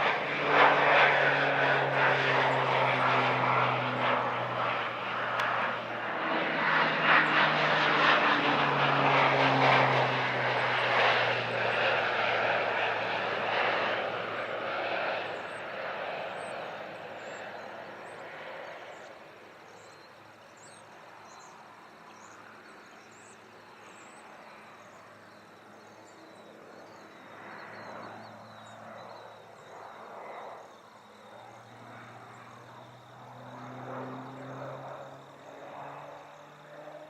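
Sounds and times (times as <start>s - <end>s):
airplane engine: 0.0s - 37.0s.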